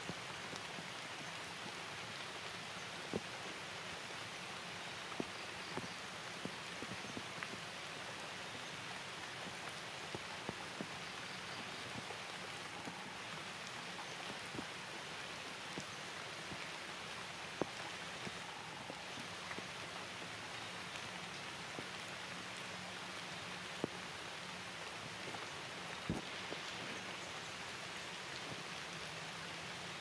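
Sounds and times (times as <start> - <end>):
raindrops ticking on surfaces: 0.0 - 30.0
steady rain hiss: 0.0 - 30.0.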